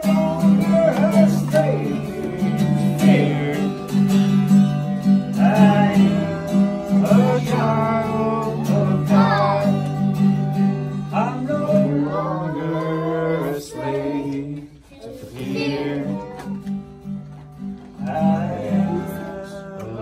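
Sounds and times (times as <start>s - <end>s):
man singing: 0.0s - 4.4s, 5.2s - 16.5s, 18.0s - 20.0s
acoustic guitar strumming: 0.0s - 14.7s, 15.3s - 20.0s.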